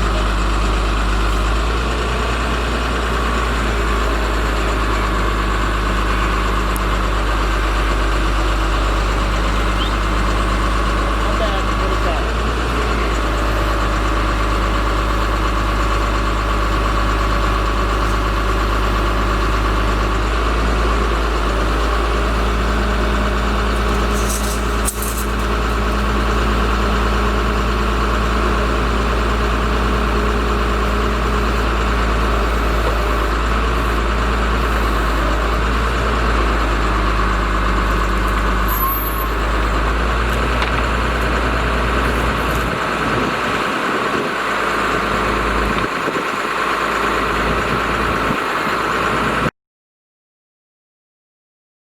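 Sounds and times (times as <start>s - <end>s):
diesel truck engine idling: 0.0s - 49.5s.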